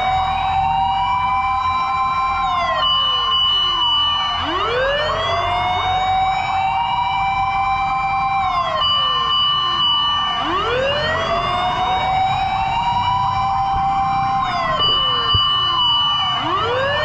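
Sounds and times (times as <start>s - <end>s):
emergency sirens wailing: 0.0s - 17.0s.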